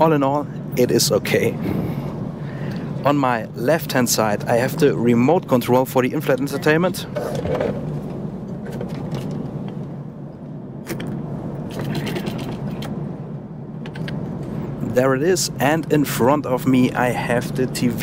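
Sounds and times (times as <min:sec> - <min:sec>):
airplane cabin noise: 0:00.0 - 0:18.0.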